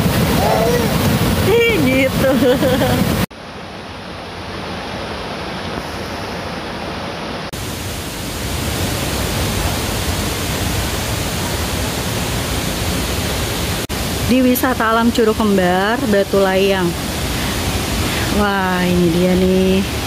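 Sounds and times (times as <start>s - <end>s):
river rushing over rapids: 0.0s - 20.0s.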